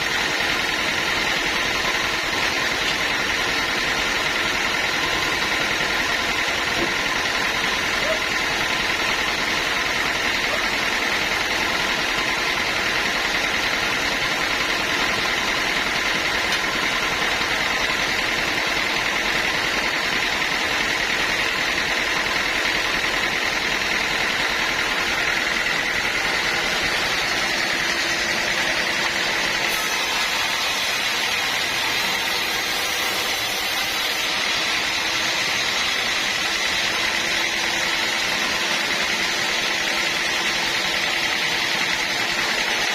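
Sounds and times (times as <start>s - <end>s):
sawmill machinery din: 0.0s - 42.9s.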